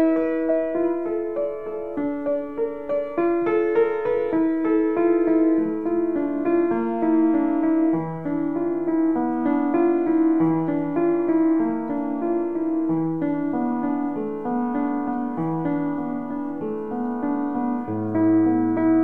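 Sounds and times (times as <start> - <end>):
piano improvisation: 0.0 - 19.0.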